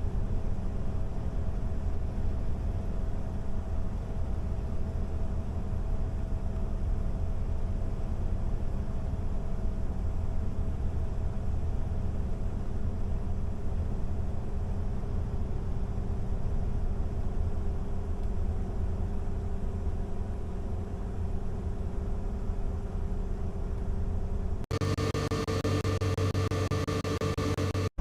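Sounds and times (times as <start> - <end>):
vehicle road and engine rumble: 0.0 - 28.0.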